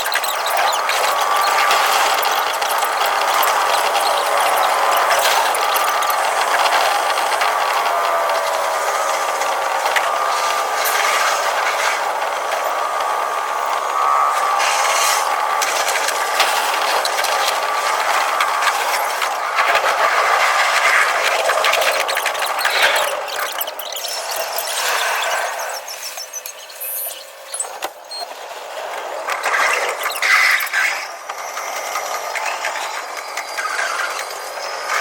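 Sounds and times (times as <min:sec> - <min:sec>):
train motor whine: 0:00.0 - 0:35.0
train wheels on rails: 0:00.0 - 0:35.0.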